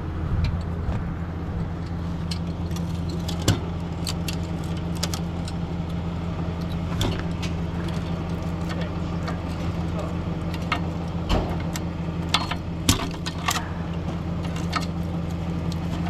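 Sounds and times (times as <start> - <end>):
tow truck engine idling: 0.0 - 16.0.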